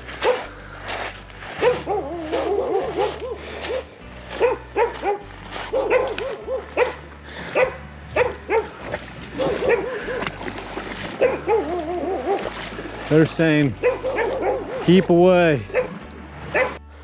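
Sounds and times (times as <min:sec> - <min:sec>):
dogs barking: 0:00.2 - 0:00.6, 0:01.6 - 0:16.8.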